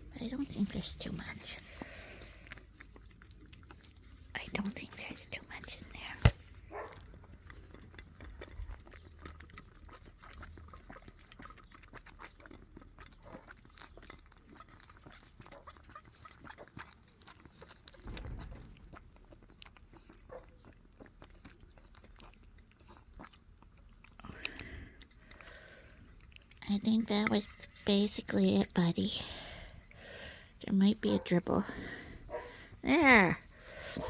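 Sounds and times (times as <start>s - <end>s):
lamb sucking on bottle nipple: 0.4s - 34.0s.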